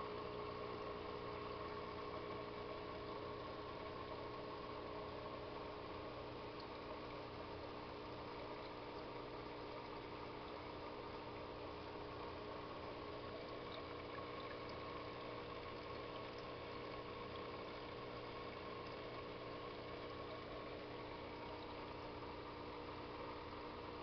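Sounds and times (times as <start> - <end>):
aquarium filter humming: 0.0 - 24.0
trickling water: 0.1 - 24.0.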